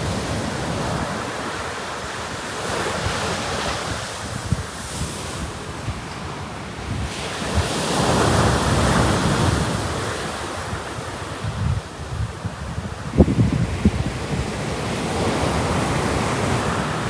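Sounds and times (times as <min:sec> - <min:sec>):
sea waves washing onto beach: 0:00.0 - 0:17.0
wind buffeting microphone: 0:00.0 - 0:17.0.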